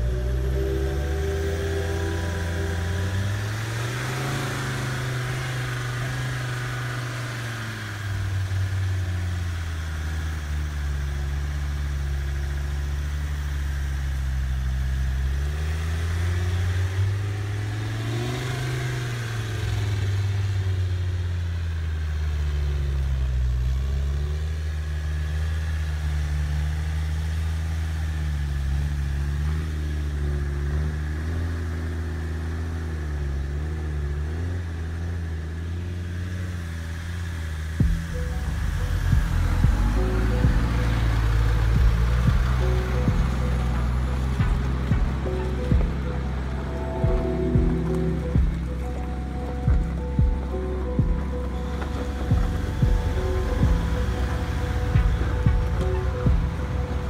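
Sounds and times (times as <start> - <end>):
toy truck engine drone: 0.0 - 57.0.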